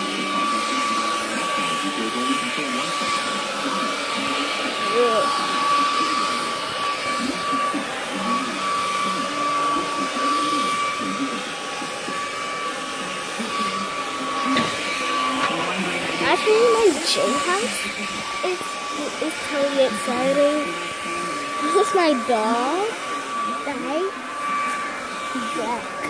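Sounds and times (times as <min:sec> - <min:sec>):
electric motor blowing air: 0:00.0 - 0:26.0.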